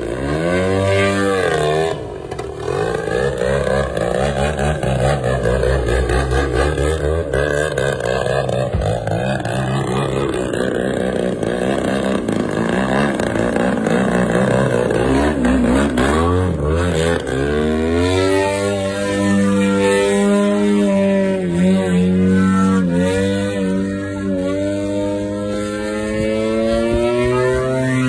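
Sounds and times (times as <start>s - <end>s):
model airplane propeller buzzing: 0.0s - 28.0s.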